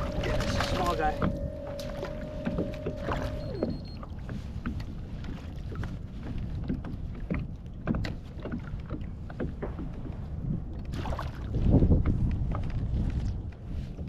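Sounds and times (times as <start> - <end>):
water lapping around a kayak: 0.0 - 14.0
wind rumble on microphone: 0.0 - 14.0.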